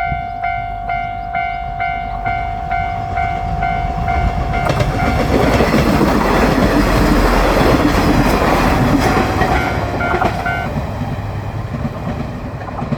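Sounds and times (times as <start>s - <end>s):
crossing bell dinging: 0.0s - 10.9s
train rumbling past: 0.0s - 12.9s
wheels clicking over rail joints: 0.9s - 12.9s.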